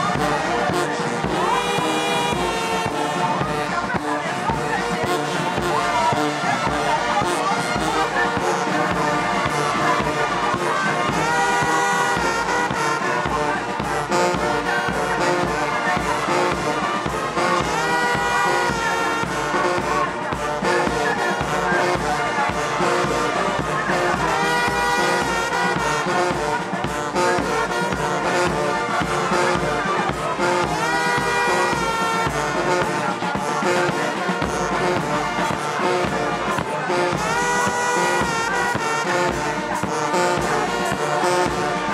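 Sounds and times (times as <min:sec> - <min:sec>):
brass band playing march: 0:00.0 - 0:41.9.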